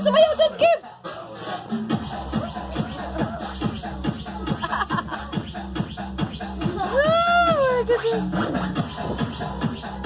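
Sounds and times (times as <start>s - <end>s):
fast beat music with deep bass: 0.0s - 10.0s.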